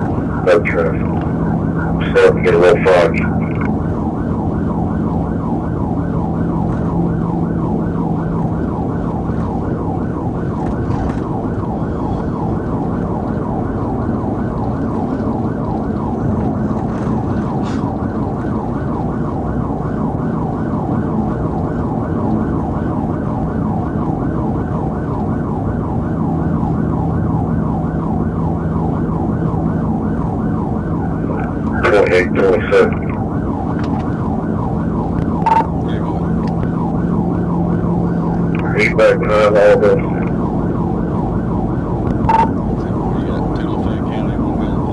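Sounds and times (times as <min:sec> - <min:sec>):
engine and road noise hum: 0:00.0 - 0:44.9
police siren yelping: 0:00.0 - 0:44.9.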